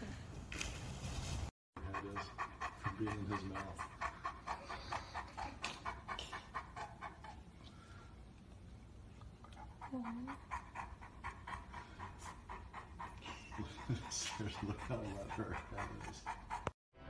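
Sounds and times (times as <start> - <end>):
large dog panting: 1.8 - 16.8.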